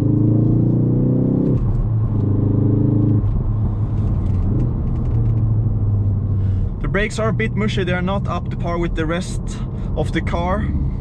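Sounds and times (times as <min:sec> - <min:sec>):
car engine under throttle: 0:00.0 - 0:11.0
road rumble: 0:00.0 - 0:11.0.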